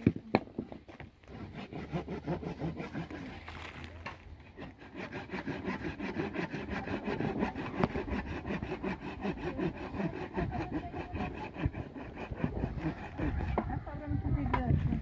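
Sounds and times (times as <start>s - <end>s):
hand saw cutting branch: 1.2s - 13.8s.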